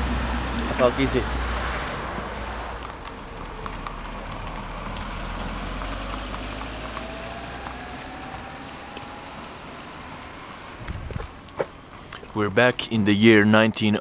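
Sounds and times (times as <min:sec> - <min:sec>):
passing vehicle whine: 0:00.0 - 0:12.4
road traffic hiss: 0:00.0 - 0:12.7.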